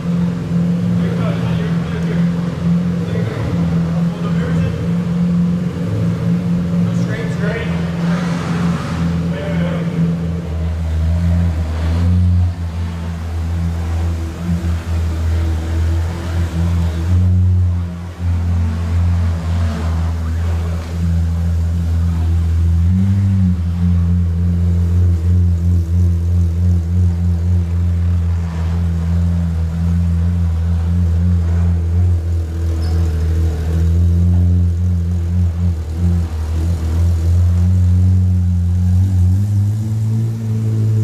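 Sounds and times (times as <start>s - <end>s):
car engine at low revs: 0.0s - 41.0s.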